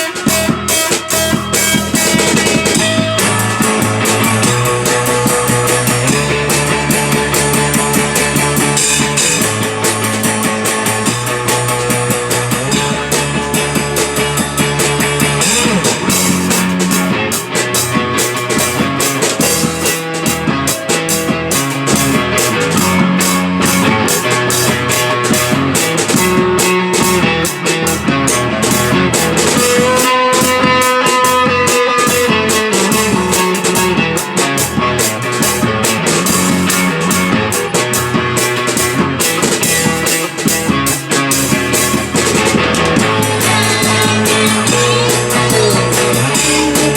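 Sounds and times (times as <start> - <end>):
dense steady beat: 0.0 - 46.9
instrumental rock band: 0.0 - 46.9.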